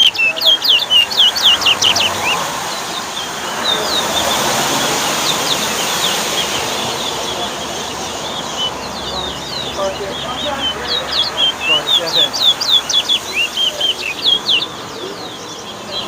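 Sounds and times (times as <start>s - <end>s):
background murmur: 0.0s - 16.0s
songbirds whistling: 0.0s - 16.0s.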